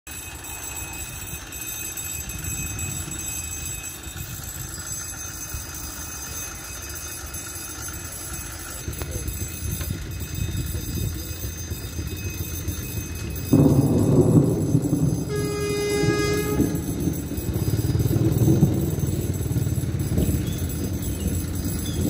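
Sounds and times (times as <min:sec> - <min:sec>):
level crossing warning tones: 0:00.1 - 0:22.0
low uneven rumble: 0:01.2 - 0:22.0.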